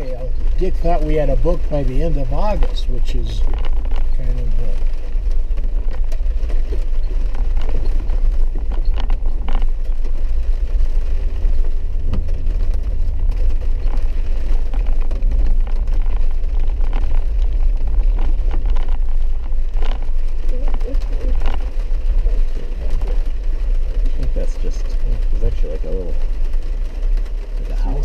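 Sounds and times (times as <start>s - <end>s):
vehicle engine and road rumble: 0.0s - 28.0s.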